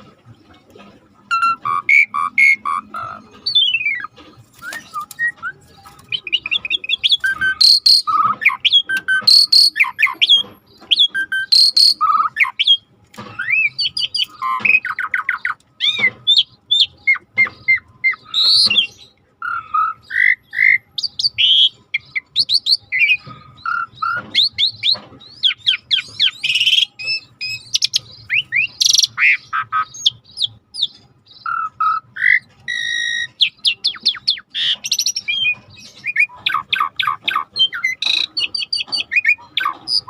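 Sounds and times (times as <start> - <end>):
starling singing: 1.2 - 40.0.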